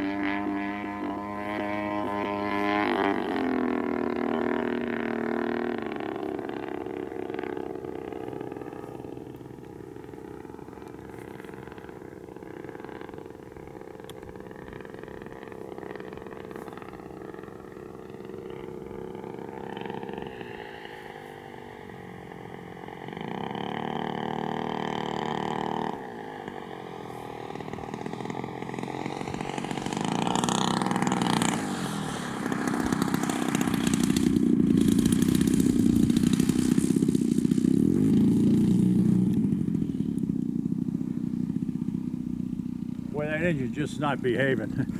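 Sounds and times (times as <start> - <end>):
model airplane gas engine droning: 0.0 - 44.9.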